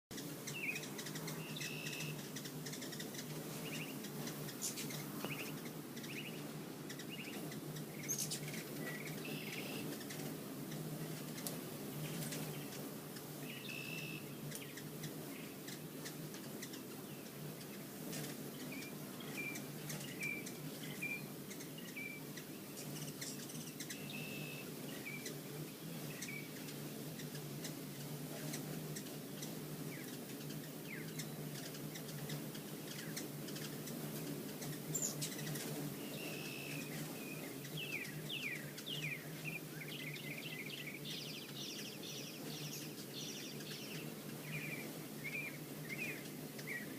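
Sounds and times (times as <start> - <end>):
hummingbirds chirping: 0.1 - 46.9.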